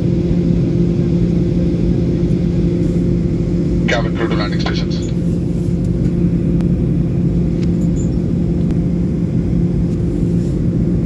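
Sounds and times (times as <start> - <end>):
constant low hum: 0.0 - 11.0
jet engine and airflow rumble: 0.0 - 11.0.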